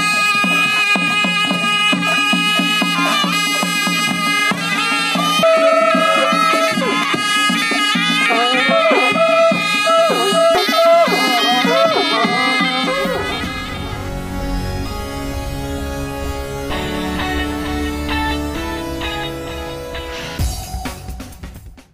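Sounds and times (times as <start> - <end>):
reed pipes playing wavering melody: 0.0 - 21.1.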